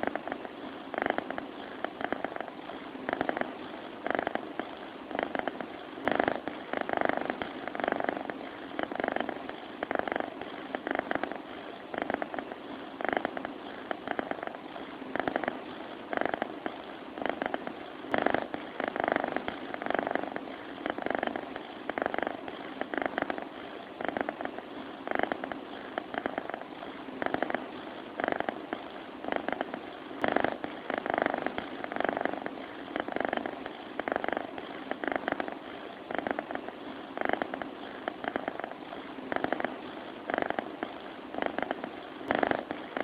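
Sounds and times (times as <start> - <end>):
cat purring: 0.0 - 43.0.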